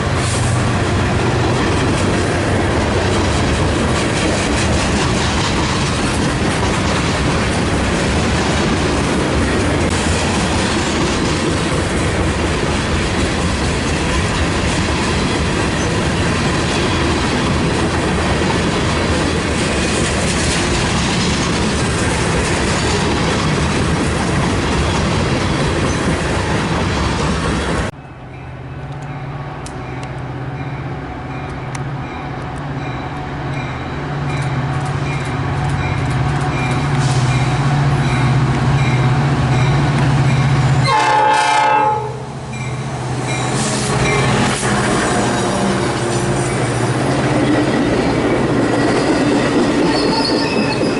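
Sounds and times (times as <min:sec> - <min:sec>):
clickety-clack of train: 0:00.0 - 0:28.0, 0:28.8 - 0:50.9
diesel locomotive engine drone: 0:00.0 - 0:50.9
train wheels on rails: 0:00.0 - 0:50.9.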